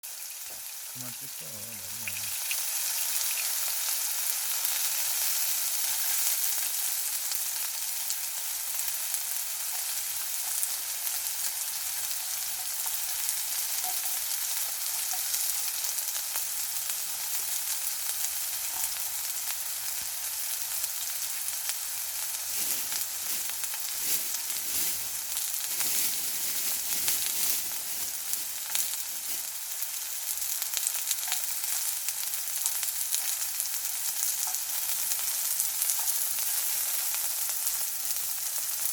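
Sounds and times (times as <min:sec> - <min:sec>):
meat sizzling on a grill pan: 0:00.0 - 0:38.9.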